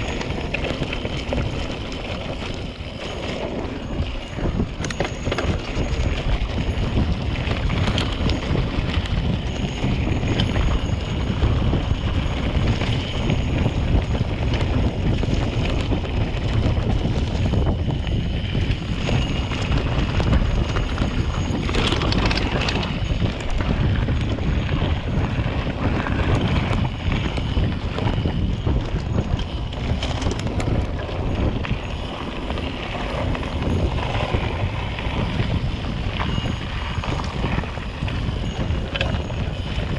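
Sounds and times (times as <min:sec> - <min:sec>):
bike rattling: 0:00.0 - 0:39.9
tyres rumbling on gravel: 0:00.0 - 0:39.9
wind buffeting microphone: 0:00.0 - 0:39.9.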